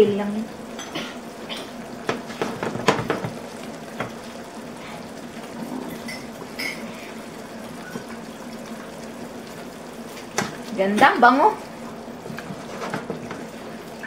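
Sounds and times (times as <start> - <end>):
food simmering in a frying pan: 0.0 - 14.0.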